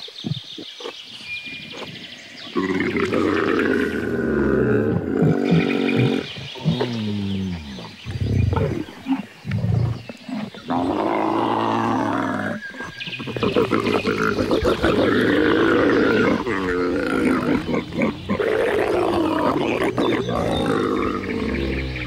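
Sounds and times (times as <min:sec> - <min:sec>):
camels groaning and bellowing: 0:01.6 - 0:22.0.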